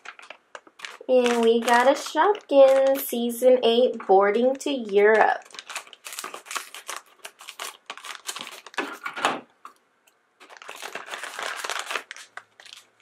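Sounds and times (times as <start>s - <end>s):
plastic packet crinkling: 0.0s - 9.8s, 10.4s - 13.0s.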